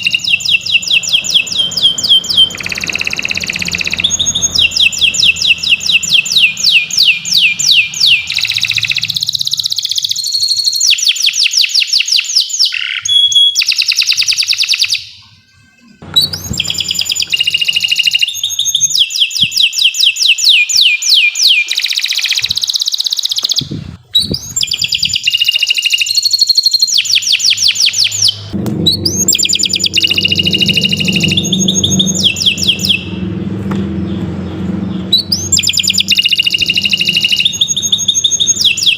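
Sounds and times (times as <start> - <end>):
canary singing rapid trills: 0.0 - 15.2, 16.0 - 38.9.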